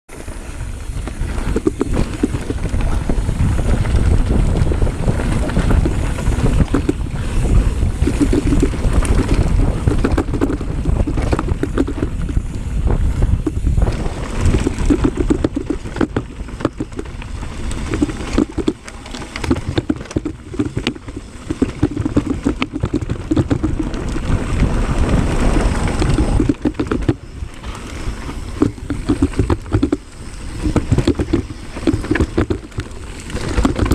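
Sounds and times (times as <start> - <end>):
bike knocking and rattling on rocks: 0.1 - 33.9
bike tyres rumbling over dirt: 0.1 - 33.9
wind buffeting microphone: 0.2 - 33.9.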